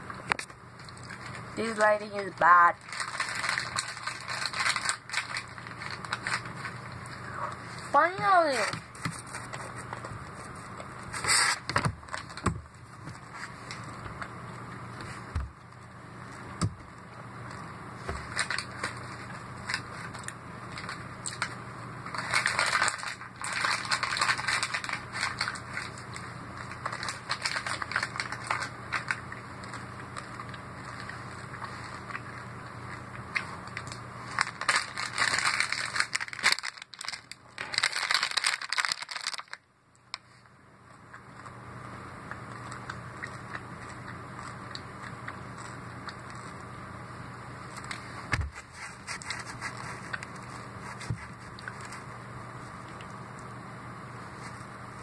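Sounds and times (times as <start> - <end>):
crinkling and crackling: 0.0 - 55.0
low steady hum: 0.0 - 55.0.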